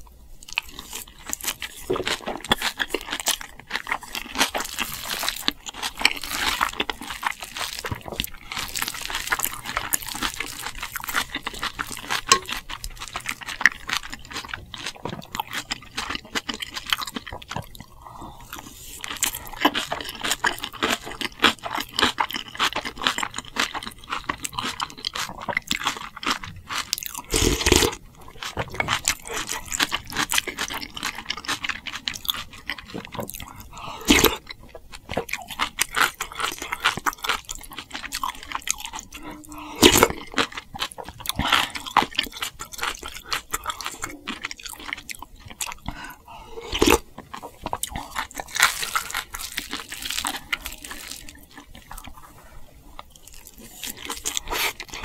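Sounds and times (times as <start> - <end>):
chewing and crunching: 0.0 - 55.0.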